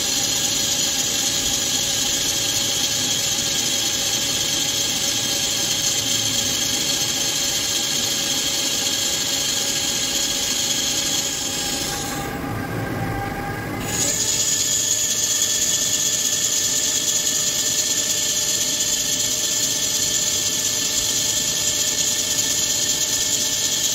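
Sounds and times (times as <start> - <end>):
lathe machine tones: 0.0 - 23.9.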